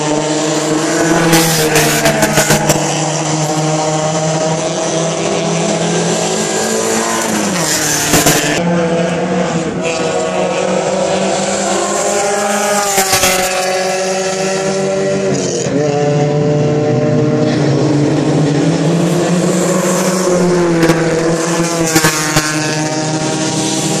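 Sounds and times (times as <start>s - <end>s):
race car engines passing: 0.0s - 24.0s.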